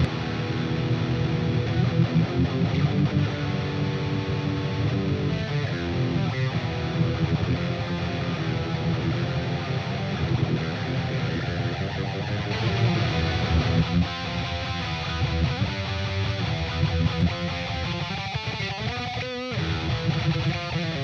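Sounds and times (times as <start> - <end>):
distorted electric guitar riff: 0.0 - 21.0.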